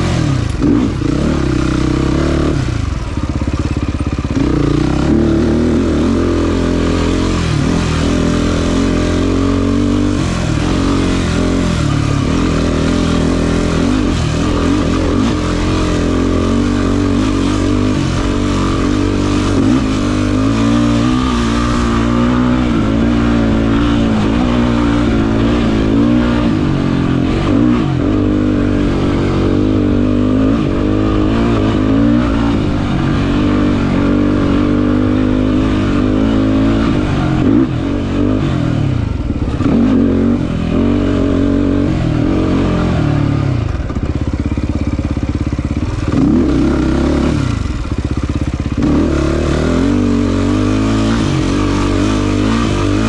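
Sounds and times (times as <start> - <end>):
quad engine revving hard: 0.0 - 53.0.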